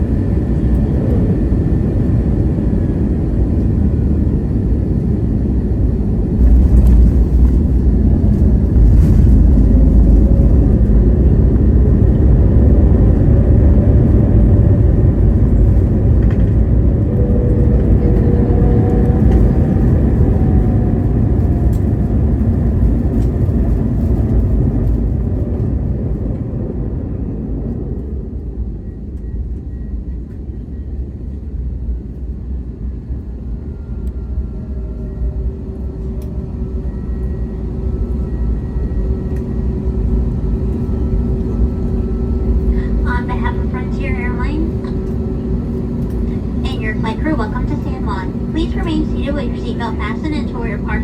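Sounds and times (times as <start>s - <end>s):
jet engine and runway rumble: 0.0s - 51.0s.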